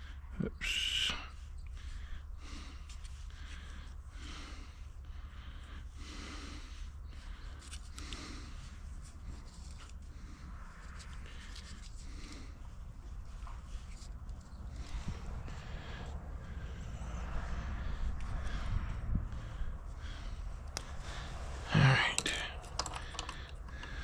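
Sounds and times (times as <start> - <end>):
steady low hum: 0.0 - 24.0
heavy breathing: 1.1 - 24.0.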